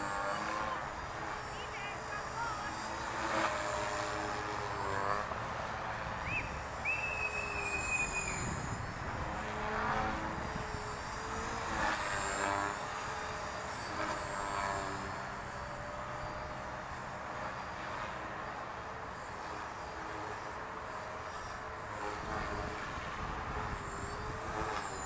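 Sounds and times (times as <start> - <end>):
rc helicopter rotor whine: 0.0 - 25.0.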